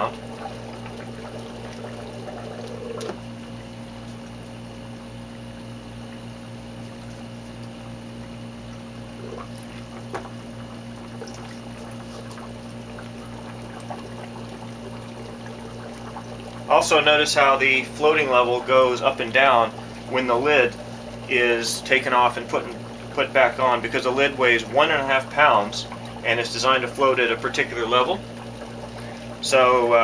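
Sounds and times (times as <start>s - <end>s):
pump hum: 0.0s - 30.0s
water bubbling: 0.0s - 30.0s.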